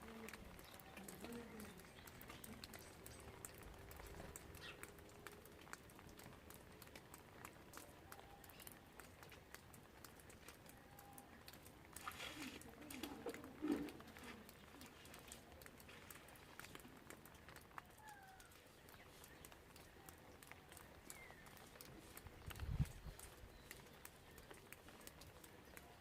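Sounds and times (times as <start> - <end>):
faint raindrops pattering: 0.0 - 26.0.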